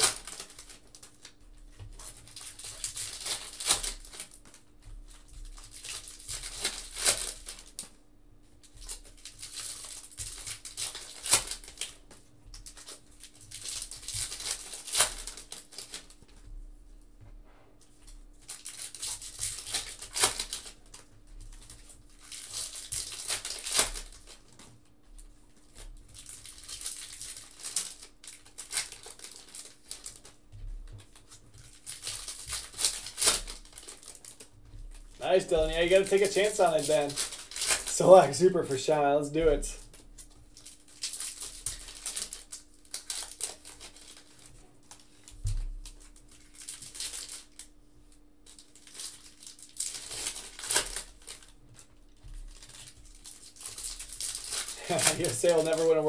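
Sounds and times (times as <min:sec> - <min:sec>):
foil wrappers crinkling and tearing: 0:00.0 - 0:16.5, 0:17.8 - 0:56.0.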